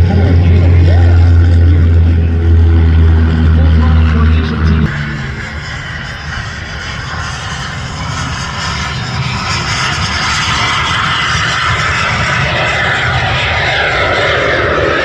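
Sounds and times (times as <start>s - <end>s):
airplane engine overhead: 0.0s - 15.0s.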